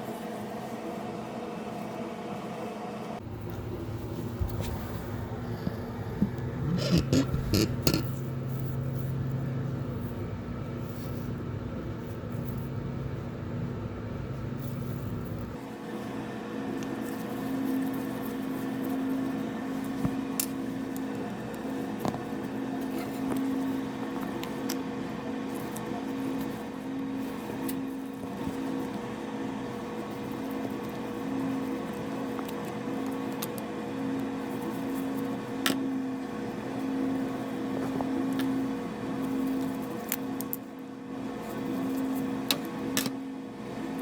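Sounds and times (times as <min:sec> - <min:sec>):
pulsing electrical hum: 0:00.0 - 0:44.0.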